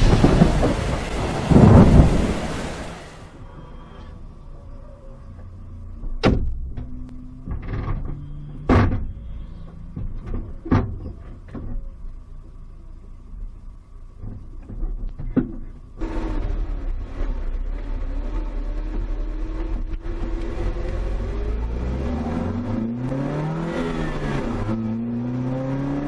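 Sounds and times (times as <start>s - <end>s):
low steady rumble: 0.0s - 23.2s.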